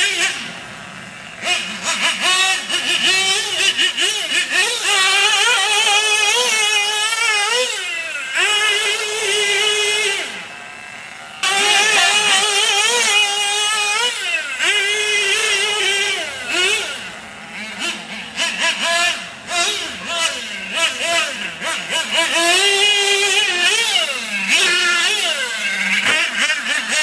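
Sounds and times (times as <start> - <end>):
nitro engine at high revs: 0.0 - 27.0.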